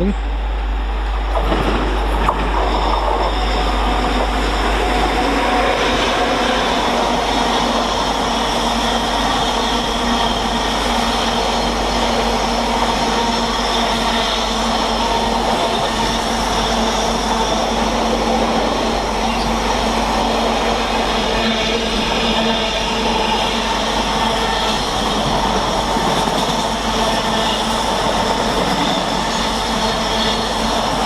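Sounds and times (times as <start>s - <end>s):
freight train passing: 0.0s - 31.0s.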